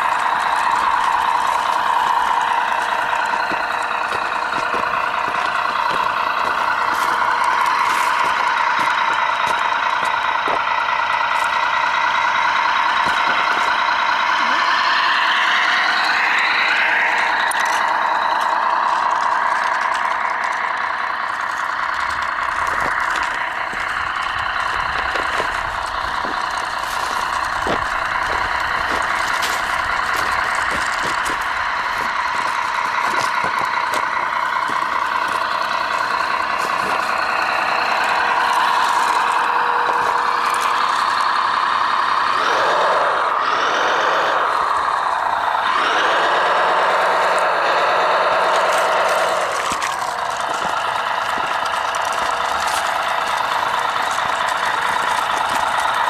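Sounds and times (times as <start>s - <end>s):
clicks and crackles: 0.0s - 43.4s, 44.2s - 56.0s
model truck motor running: 0.0s - 56.0s.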